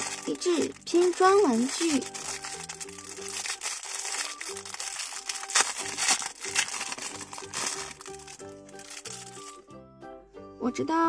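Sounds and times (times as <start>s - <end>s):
plastic bag crinkling: 0.0s - 9.6s
light background music: 0.0s - 11.0s.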